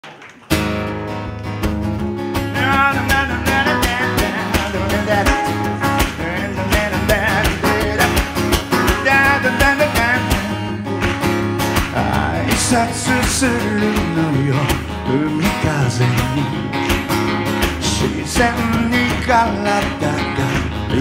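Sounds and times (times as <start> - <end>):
acoustic guitar strumming: 0.5 - 21.0.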